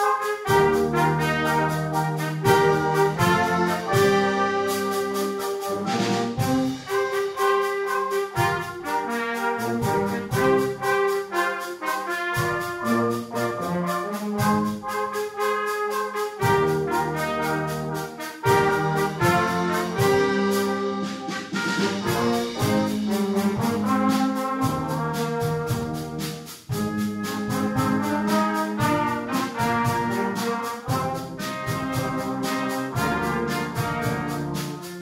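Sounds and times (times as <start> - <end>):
brass ensemble playing: 0.0 - 35.0.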